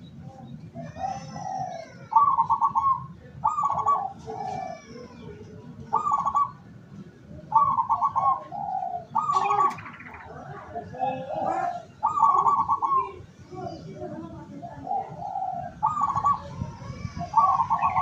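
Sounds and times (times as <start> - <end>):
doves cooing: 0.0 - 18.0
small birds chirping: 0.0 - 18.0.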